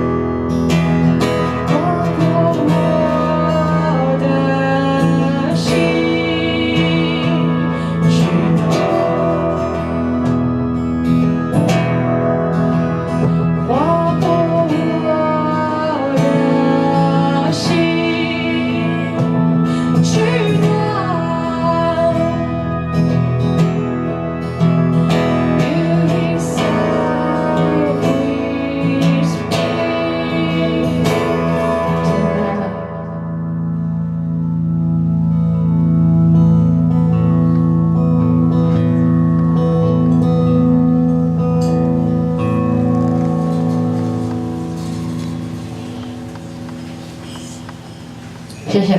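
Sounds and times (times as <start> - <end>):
bending guitar melody: 0.0 - 48.9
low sustained chords: 0.0 - 48.9
strummed guitar chords: 0.0 - 48.9.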